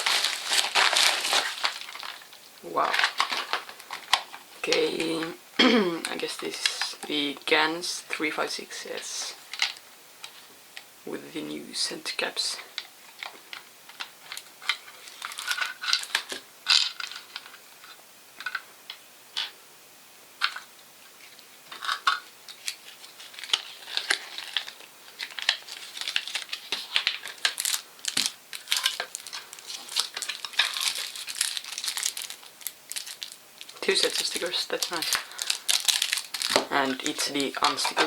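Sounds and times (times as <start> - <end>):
plastic packaging crinkling: 0.0 - 5.4, 6.0 - 7.4, 9.0 - 10.4, 12.6 - 18.6, 20.4 - 38.0.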